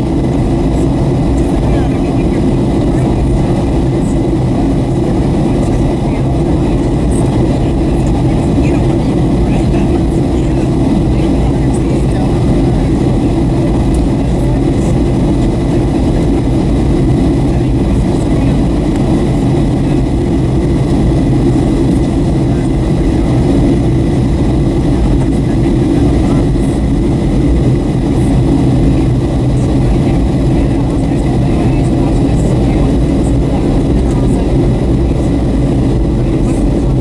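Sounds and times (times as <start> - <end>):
aircraft engine drone: 0.0 - 37.0.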